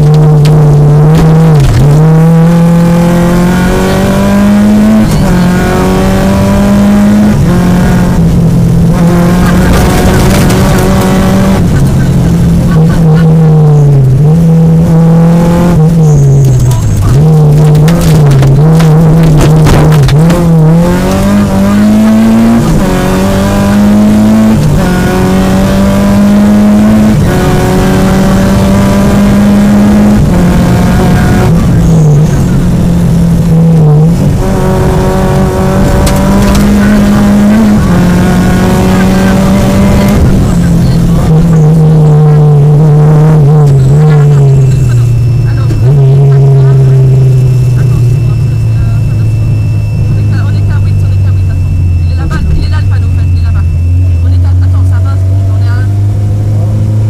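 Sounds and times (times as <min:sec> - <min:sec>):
gear shifts: 0:00.0 - 0:54.4
rally car engine at full effort: 0:00.0 - 0:57.0.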